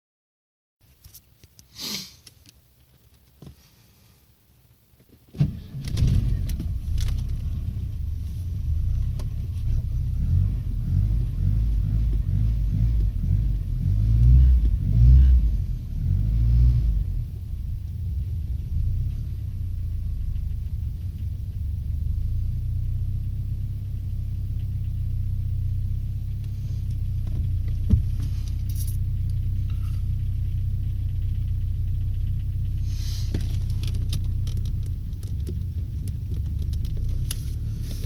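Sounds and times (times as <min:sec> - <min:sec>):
car engine starting and idling: 0:05.2 - 0:38.0.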